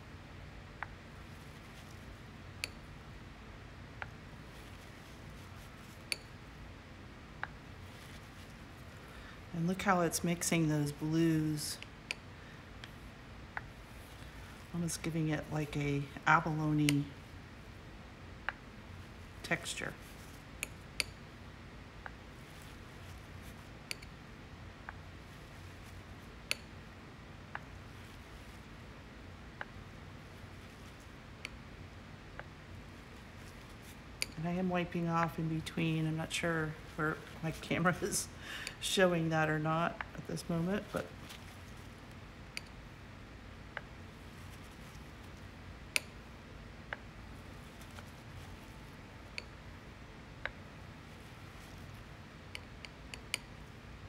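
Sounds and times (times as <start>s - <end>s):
room hum: 0.0s - 54.0s.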